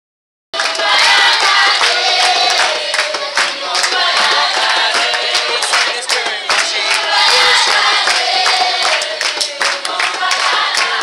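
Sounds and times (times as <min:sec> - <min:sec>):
children singing in chorus: 0:00.6 - 0:11.0.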